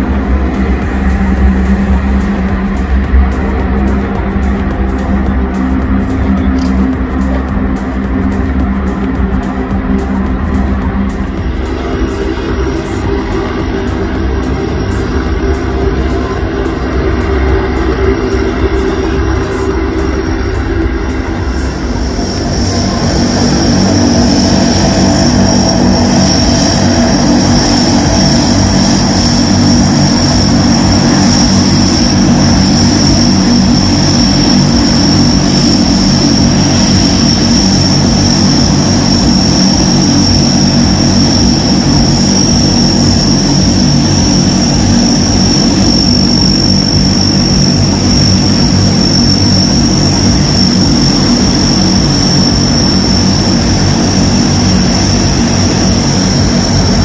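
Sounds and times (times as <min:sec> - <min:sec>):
high-pitched turbine whine: 0:00.0 - 0:57.0
propeller drone: 0:00.0 - 0:57.0.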